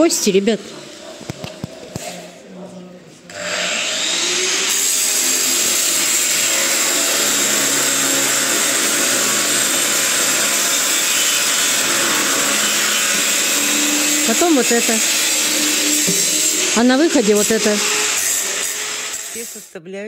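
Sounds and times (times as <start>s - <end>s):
meat grinder grinding bones: 3.3s - 19.5s.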